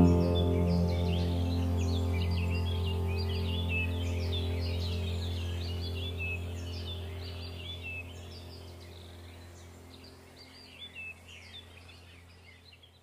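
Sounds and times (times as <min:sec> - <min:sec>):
low sustained musical tone: 0:00.0 - 0:12.9
small birds chirping: 0:00.0 - 0:13.0.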